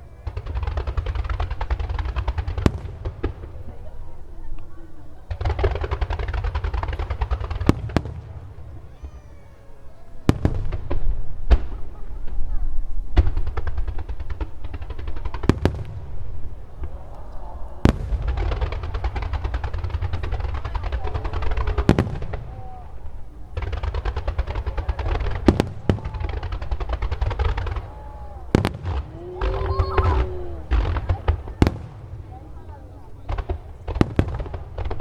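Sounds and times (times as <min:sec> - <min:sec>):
firework shells booming: 0:00.0 - 0:35.0
rapid firework crackling: 0:00.0 - 0:35.0.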